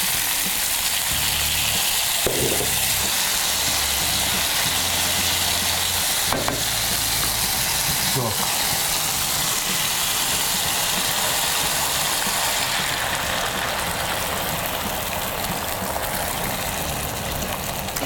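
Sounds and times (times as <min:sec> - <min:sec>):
chicken wings sizzling in a frying pan: 0:00.0 - 0:18.0.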